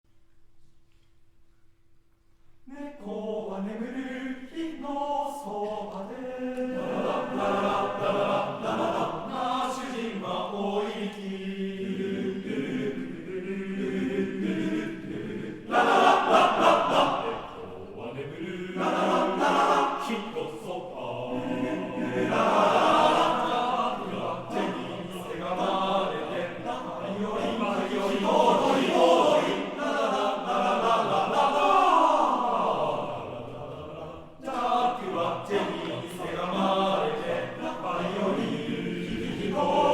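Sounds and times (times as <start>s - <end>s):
men's choir singing: 2.7s - 39.9s.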